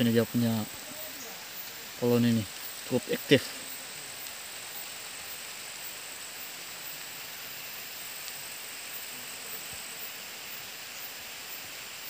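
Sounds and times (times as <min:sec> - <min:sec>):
forest undergrowth hiss: 0:00.0 - 0:12.0
thin high steady tone: 0:00.0 - 0:12.0.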